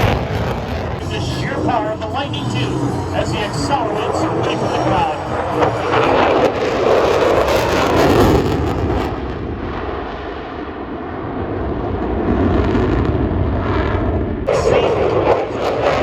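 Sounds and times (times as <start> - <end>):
airplane radial engines roaring: 0.0 - 11.0, 13.6 - 16.0.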